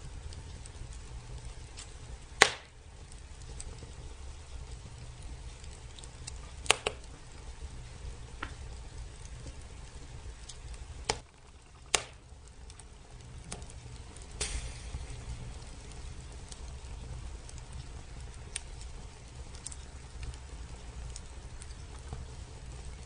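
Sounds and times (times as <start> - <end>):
logs popping: 0.0 - 23.0
low steady rumble: 0.0 - 23.0
wood fire crackling: 0.0 - 23.0.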